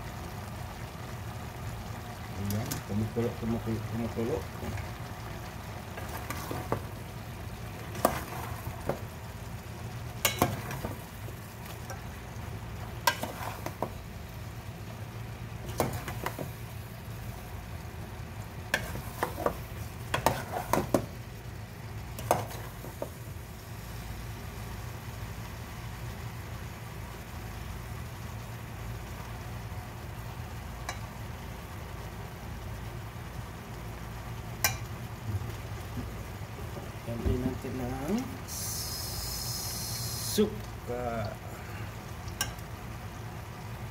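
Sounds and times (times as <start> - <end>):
faint simmering: 0.0 - 43.9
low steady hum: 0.0 - 43.9.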